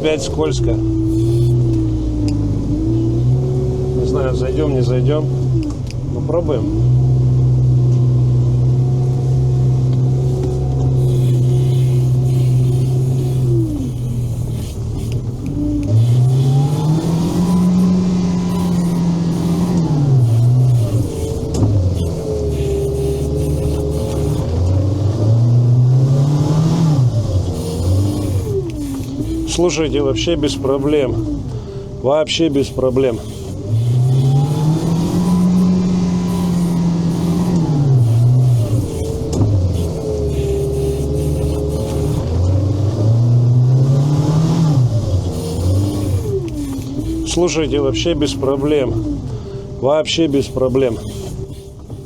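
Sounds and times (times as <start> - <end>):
vehicle engine revving under load: 0.0 - 52.0.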